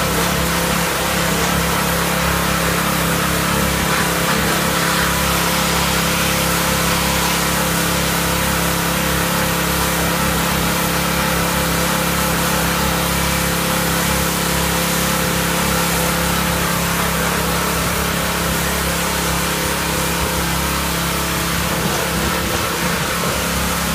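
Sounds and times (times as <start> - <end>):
pressure washer spray hiss: 0.0 - 23.9.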